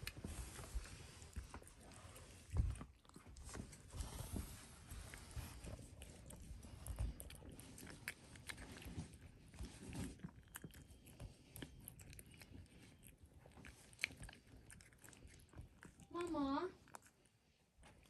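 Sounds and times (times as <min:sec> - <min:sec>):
cat chewing wet food: 0:00.0 - 0:18.0.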